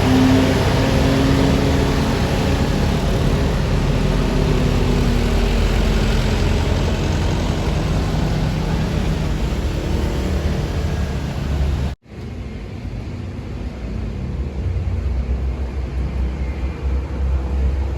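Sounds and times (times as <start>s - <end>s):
bus engine rumbling: 0.0s - 17.9s.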